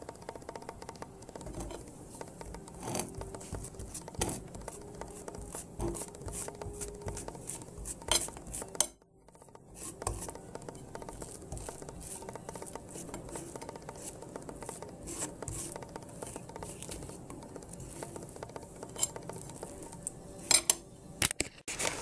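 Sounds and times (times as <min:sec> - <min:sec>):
knife scraping a plate: 0:01.3 - 0:20.8.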